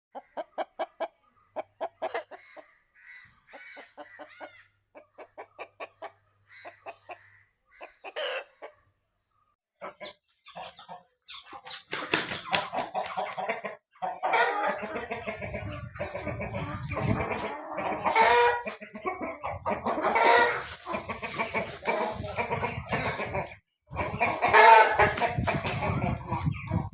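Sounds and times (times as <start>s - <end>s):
chickens clucking: 0.1s - 26.9s.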